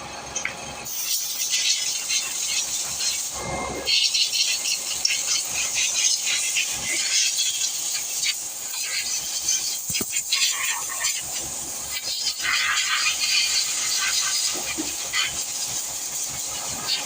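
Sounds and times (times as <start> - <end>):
pressure washer spraying water: 0.9 - 3.3, 3.9 - 17.0.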